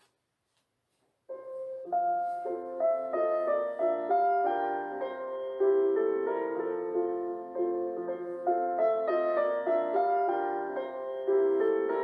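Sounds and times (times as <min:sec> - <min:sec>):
slow gentle piano music: 0:01.2 - 0:12.0.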